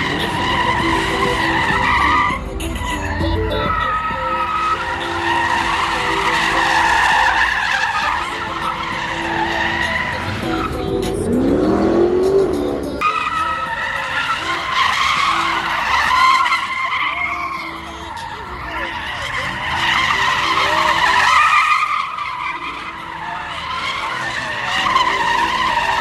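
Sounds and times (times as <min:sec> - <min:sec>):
car engine revving: 0:00.0 - 0:26.0
car tyres squealing: 0:00.0 - 0:26.0.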